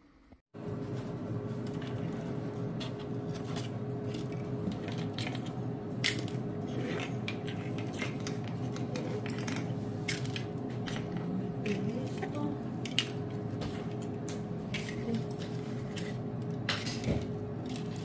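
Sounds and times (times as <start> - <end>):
steady tonal hum: 0.0 - 18.0.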